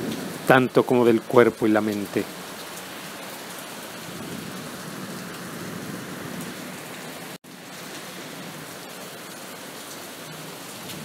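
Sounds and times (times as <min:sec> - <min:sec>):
rain hiss: 0:00.0 - 0:11.0.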